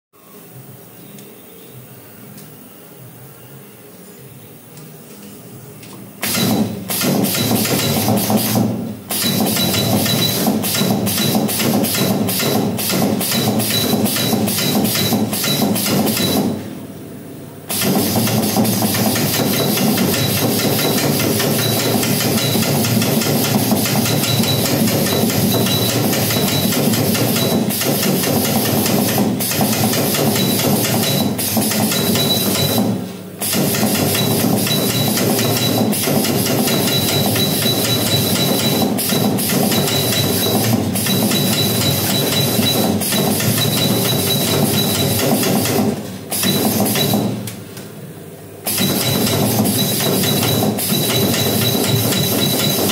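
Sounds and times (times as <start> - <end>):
welding machine hum and hiss: 4.2 - 52.9.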